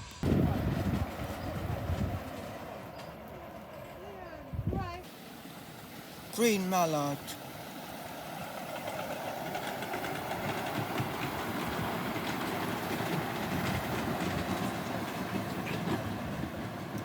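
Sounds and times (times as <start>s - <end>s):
train rumbling on track: 0.0s - 17.0s
wheels clicking over rails: 0.0s - 17.0s.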